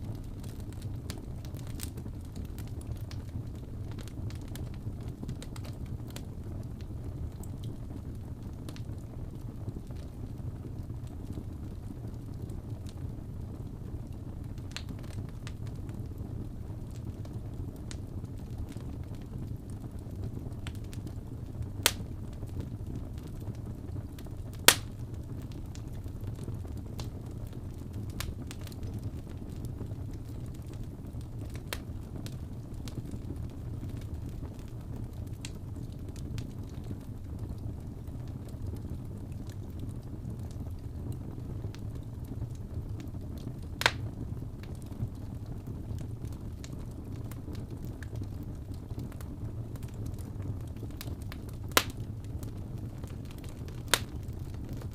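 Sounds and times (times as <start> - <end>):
wood fire burning: 0.0 - 54.9.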